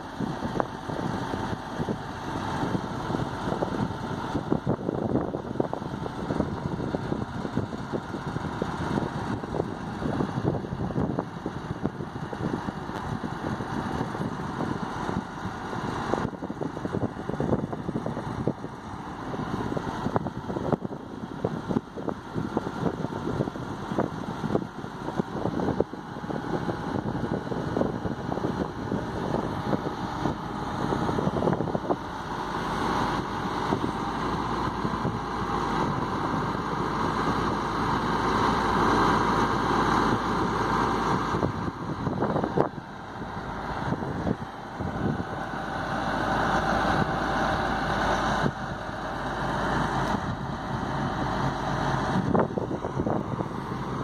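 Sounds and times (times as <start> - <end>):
crane engine running: 0.0 - 54.0.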